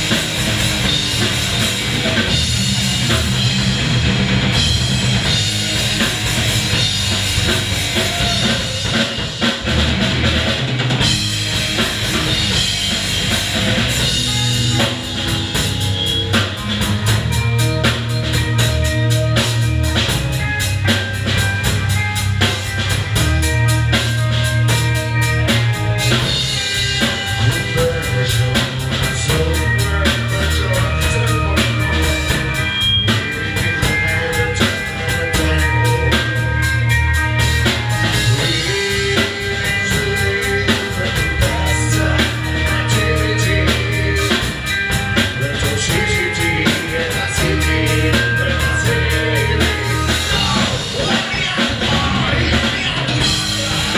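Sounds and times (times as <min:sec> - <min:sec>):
electric guitar: 0:00.0 - 0:53.9
live rock band playing: 0:00.0 - 0:53.9
pounding drum kit: 0:00.0 - 0:53.9.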